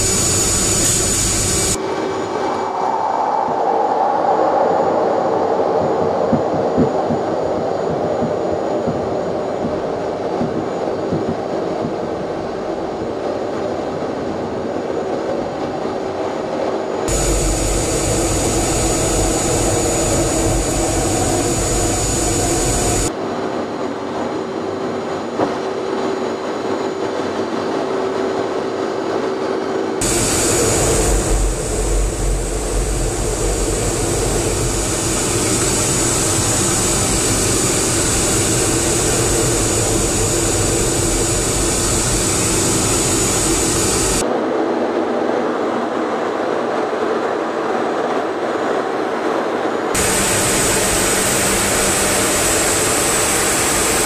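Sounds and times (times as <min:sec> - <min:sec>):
jet engines at high power: 0:00.0 - 0:54.0.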